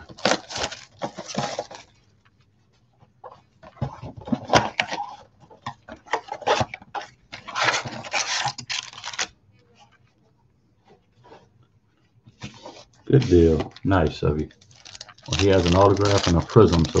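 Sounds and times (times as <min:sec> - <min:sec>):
card packaging rustling and crinkling: 0:00.0 - 0:10.2, 0:10.8 - 0:17.0.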